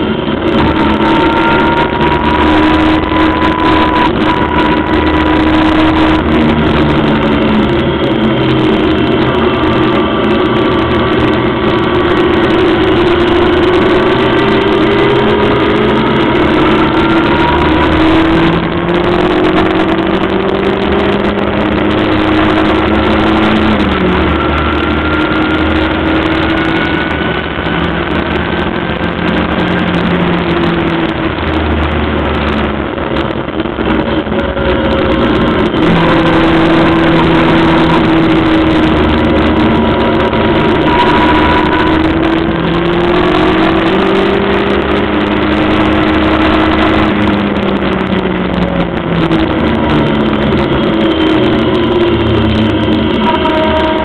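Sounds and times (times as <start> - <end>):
car engine revving at speed: 0.0 - 54.0
rush of road noise: 0.0 - 54.0.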